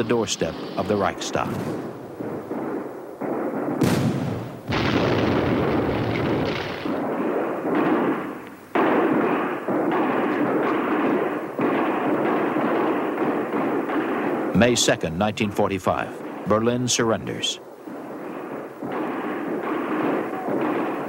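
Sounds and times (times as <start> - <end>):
artillery explosions rumbling: 0.0 - 21.0
sharp crack: 0.0 - 21.0.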